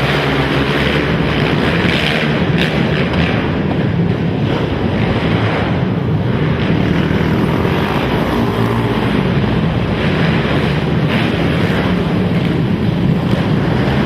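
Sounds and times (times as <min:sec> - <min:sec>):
atv engines roaring: 0:00.0 - 0:14.0.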